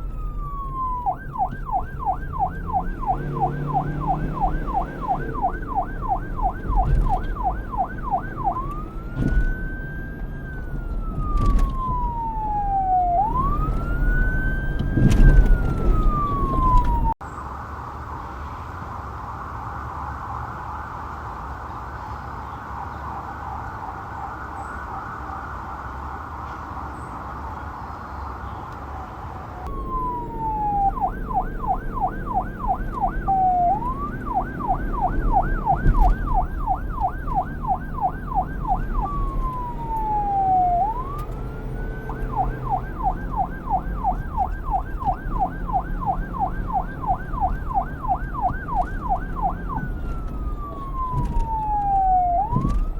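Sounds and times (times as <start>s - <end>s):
police siren: 0.0s - 18.1s, 18.7s - 52.9s.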